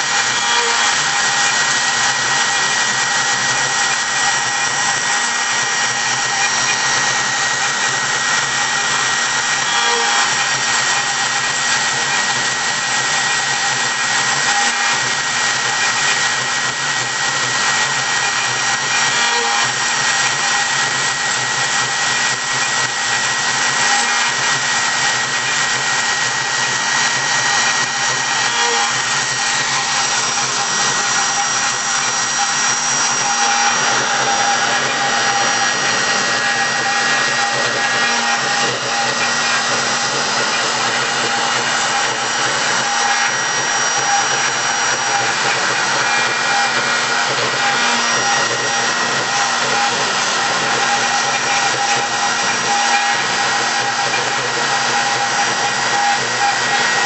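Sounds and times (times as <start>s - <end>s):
cnc machine motor whine: 0.0s - 57.0s.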